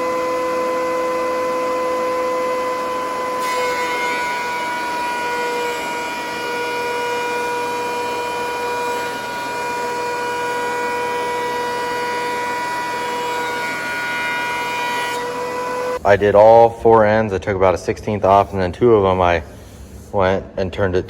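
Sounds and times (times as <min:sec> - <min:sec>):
thickness planer whining: 0:00.0 - 0:17.0.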